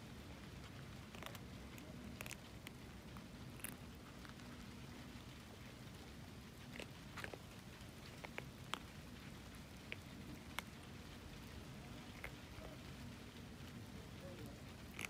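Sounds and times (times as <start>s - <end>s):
kittens eating from bowl: 0.0s - 15.0s
light rain: 0.0s - 15.0s.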